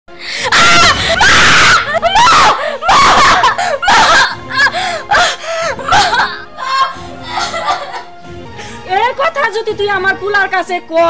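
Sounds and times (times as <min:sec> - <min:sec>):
background music: 0:00.1 - 0:11.0.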